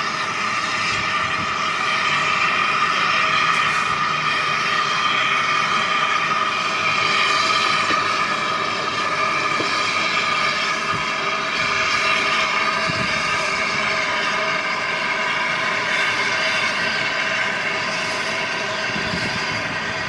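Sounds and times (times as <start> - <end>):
steam locomotive steam rushing: 0.0 - 20.0.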